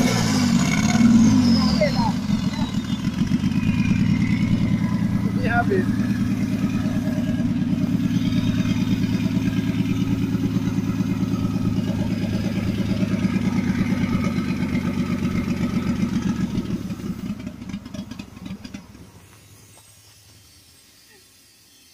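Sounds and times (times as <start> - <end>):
motorcycle engine idling: 0.0 - 20.6.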